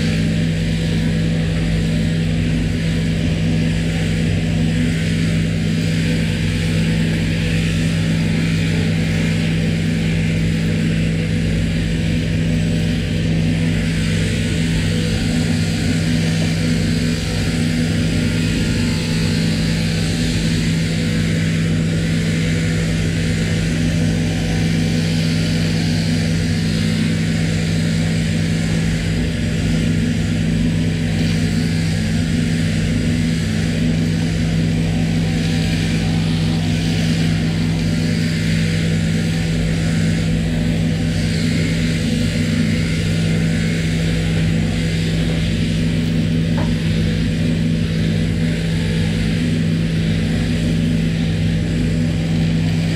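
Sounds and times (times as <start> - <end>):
electric shearing machine humming: 0.0 - 52.9.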